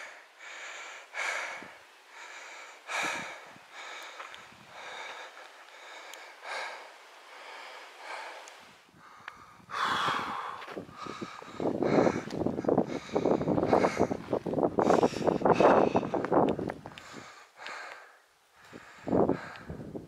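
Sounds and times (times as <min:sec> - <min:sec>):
heavy breathing: 0:00.0 - 0:20.0.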